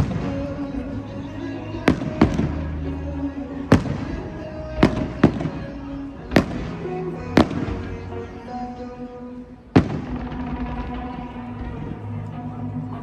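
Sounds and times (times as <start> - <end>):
fireworks bursting with echo: 0.0 - 12.6
music playing: 0.0 - 13.0.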